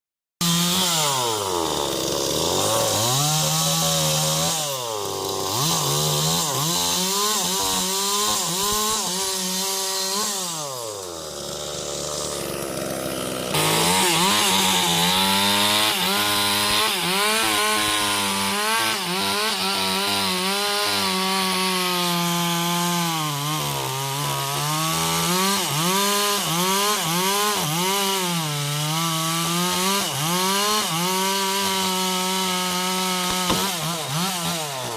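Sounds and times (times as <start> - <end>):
chainsaw cutting wood: 0.4 - 34.9.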